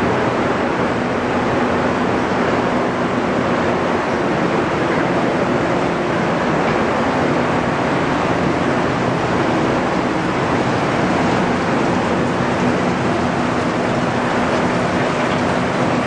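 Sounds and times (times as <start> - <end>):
low machine hum: 0.0 - 16.0
wastewater rushing through channel: 0.0 - 16.0.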